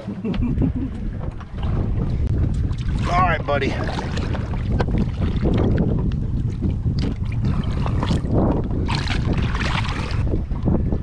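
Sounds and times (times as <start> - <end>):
water splashing: 0.0 - 10.6
wind rumble on microphone: 0.0 - 11.0.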